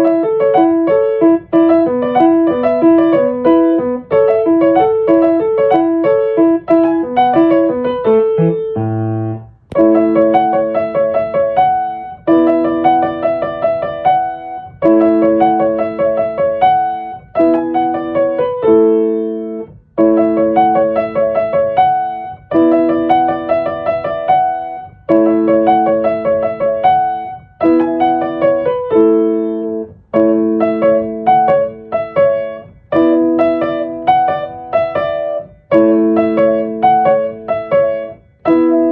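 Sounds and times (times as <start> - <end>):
solo piano broken chords: 0.0 - 38.9.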